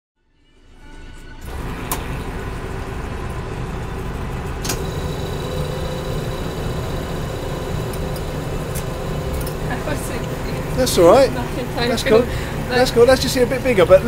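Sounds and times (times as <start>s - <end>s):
ice cream machine humming: 1.4s - 14.0s.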